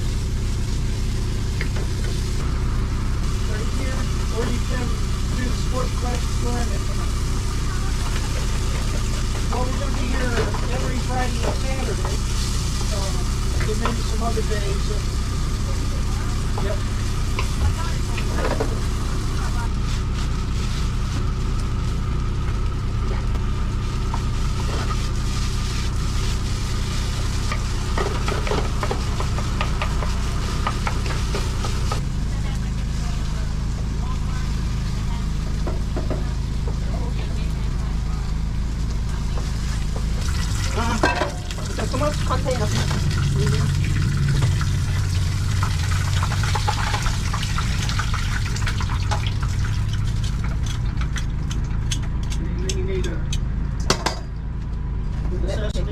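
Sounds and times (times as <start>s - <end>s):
food sizzling on a griddle: 0.0s - 52.4s
low machine hum: 0.0s - 55.9s.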